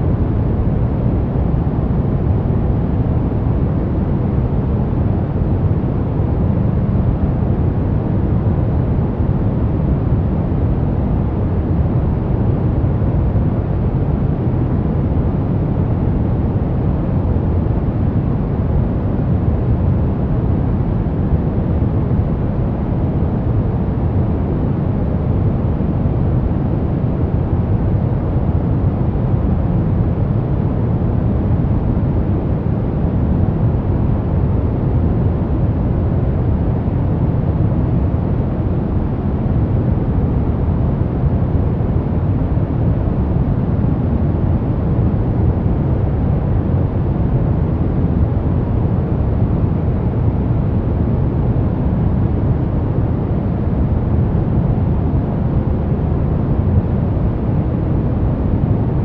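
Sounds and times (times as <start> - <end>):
deep rumbling white noise: 0.0 - 59.0.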